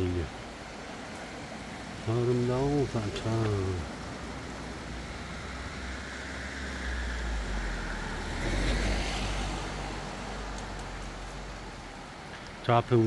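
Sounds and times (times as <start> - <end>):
road vehicle passing: 0.0 - 13.0
shallow stream rushing: 0.0 - 13.0.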